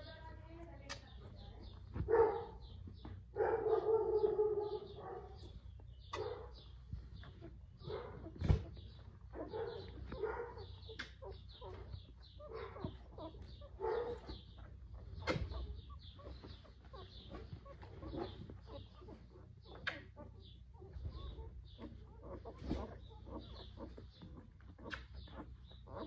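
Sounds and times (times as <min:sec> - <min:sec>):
puppies squeaking and whimpering: 0:01.2 - 0:26.0.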